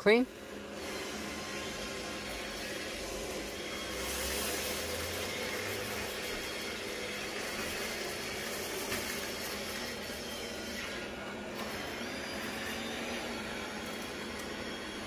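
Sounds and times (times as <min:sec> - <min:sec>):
robot vacuum running: 0:00.0 - 0:15.0.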